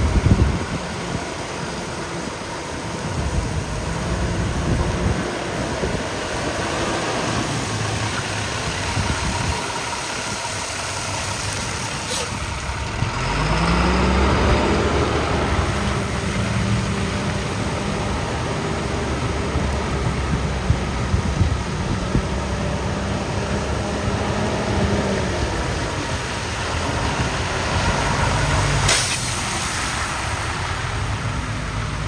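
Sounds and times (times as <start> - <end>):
truck diesel engine running: 0.0 - 32.0.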